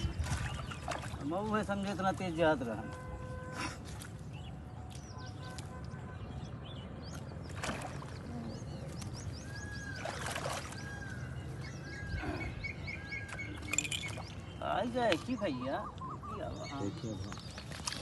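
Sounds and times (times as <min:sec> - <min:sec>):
birds chirping and whistling: 0:00.0 - 0:02.4, 0:04.1 - 0:18.0.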